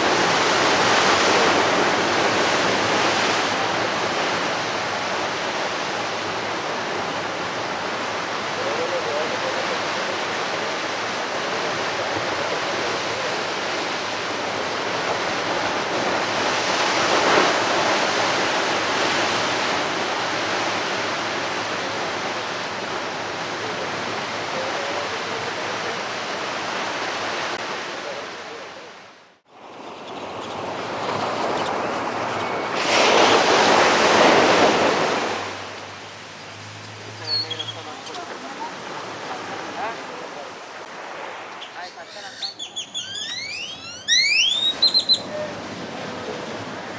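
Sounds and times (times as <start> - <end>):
ocean surf breaking on beach: 0.0 - 42.3, 43.2 - 46.9.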